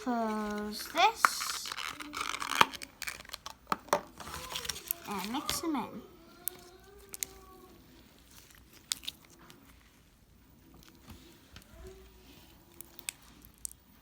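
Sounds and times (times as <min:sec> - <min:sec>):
slime squelching by hand: 0:00.0 - 0:14.0.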